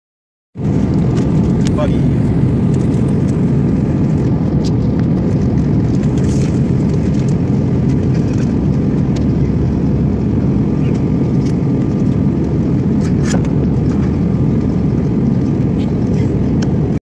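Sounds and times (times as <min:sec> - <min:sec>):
jet engines rumbling: 0:00.6 - 0:17.0
rushing air: 0:00.6 - 0:17.0.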